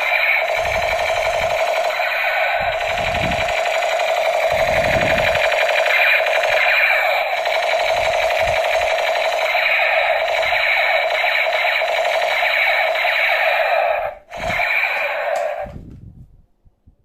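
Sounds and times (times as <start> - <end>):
toy gun rapid electronic buzzing: 0.0 - 15.7.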